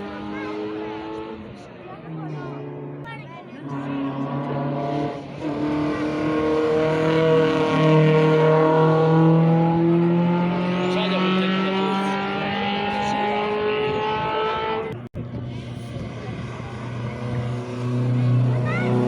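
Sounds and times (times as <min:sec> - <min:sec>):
rally car engine accelerating: 0:00.0 - 0:19.0.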